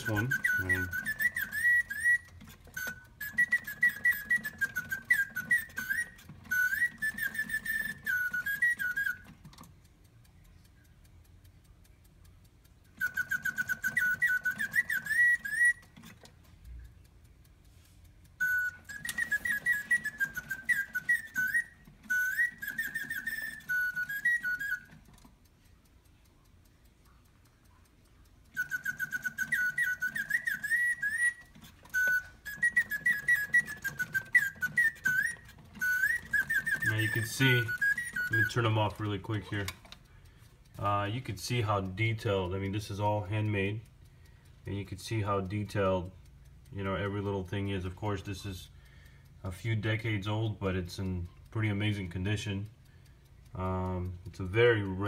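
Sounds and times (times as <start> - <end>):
mechanical bird whistling birdsong: 0.0 - 10.9, 12.8 - 17.4, 18.3 - 25.3, 27.0 - 55.0
low mechanical whir: 0.0 - 55.0.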